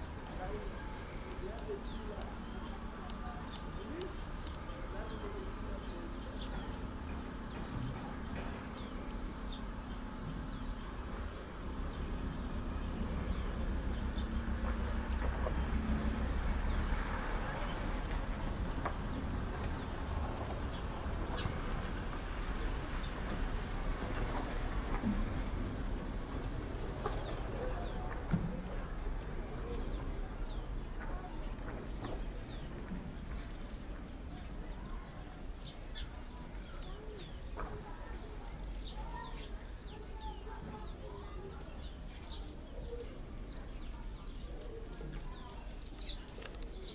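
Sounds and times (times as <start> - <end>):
low background rumble: 0.0 - 46.9
sparrows chirping: 0.0 - 46.9.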